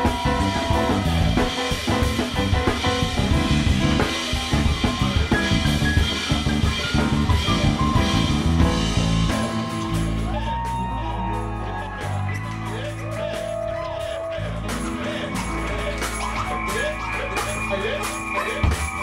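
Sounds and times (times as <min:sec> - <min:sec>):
drum kit beat: 0:00.0 - 0:19.0
electric bass line: 0:00.0 - 0:19.0
keyboards: 0:00.0 - 0:19.0
live band playing: 0:00.0 - 0:19.0.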